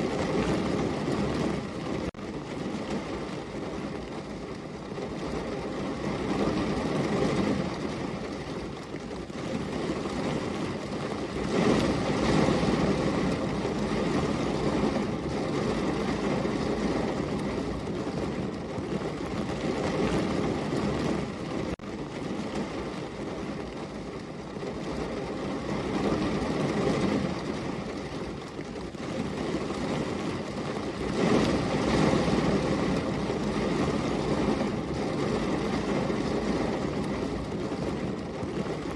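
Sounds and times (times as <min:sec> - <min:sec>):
heavy rain hissing and pattering: 0:00.0 - 0:38.9.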